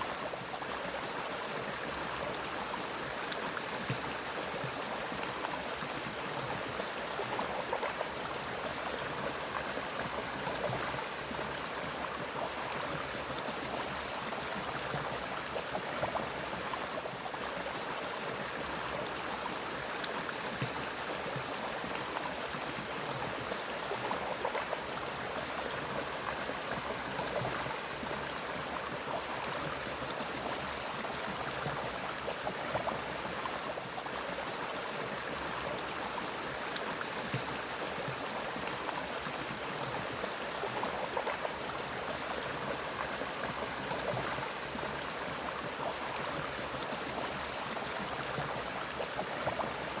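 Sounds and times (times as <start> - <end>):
stream flowing over rocks: 0.0 - 50.0.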